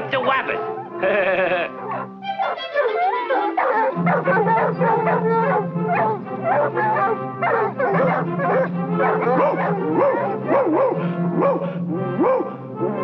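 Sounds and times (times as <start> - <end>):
background music with low notes: 0.0 - 13.0
cartoon hounds barking and baying: 0.6 - 13.0.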